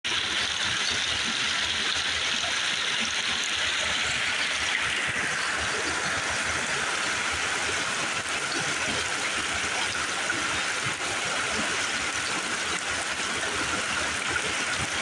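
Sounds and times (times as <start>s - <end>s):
creek rushing over stones: 0.1s - 15.0s.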